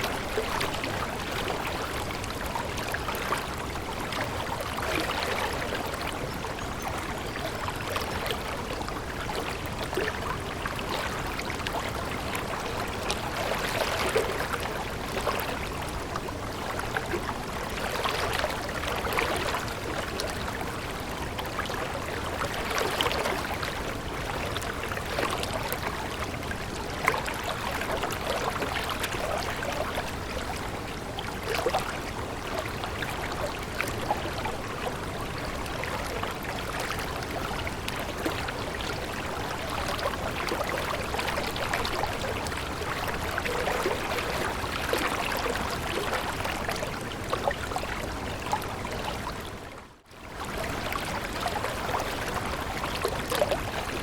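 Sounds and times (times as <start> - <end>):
water flowing and splashing: 0.0 - 54.0.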